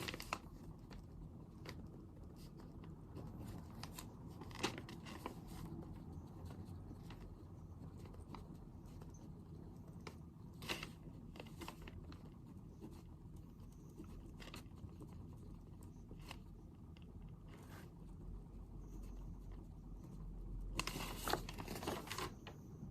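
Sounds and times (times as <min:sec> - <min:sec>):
low room hum: 0:00.0 - 0:22.9.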